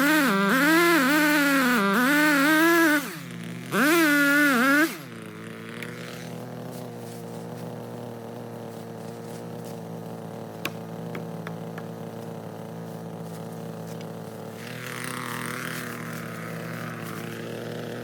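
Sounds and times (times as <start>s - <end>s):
engine idling: 0.1s - 18.0s.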